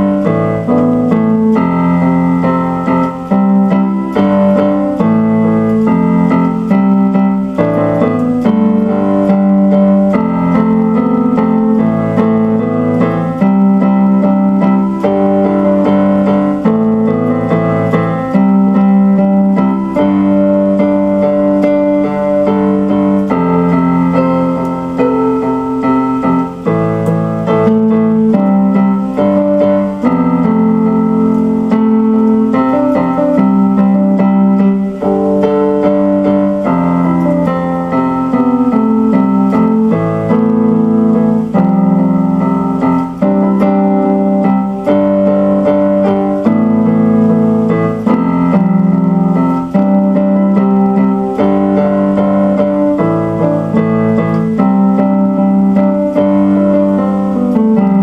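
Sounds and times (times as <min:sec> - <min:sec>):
keyboard chords: 0:00.0 - 0:58.0.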